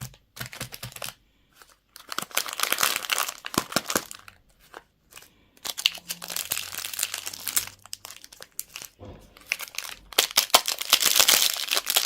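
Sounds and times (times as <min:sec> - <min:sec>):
candy wrapper crinkling: 0:00.0 - 0:12.0.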